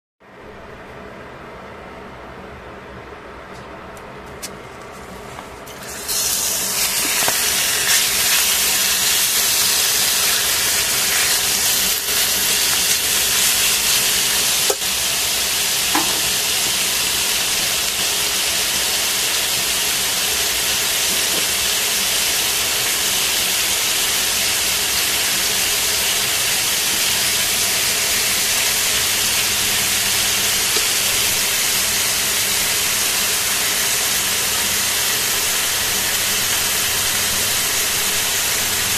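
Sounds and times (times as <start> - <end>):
meat sizzling in hot oil: 5.6 - 38.9.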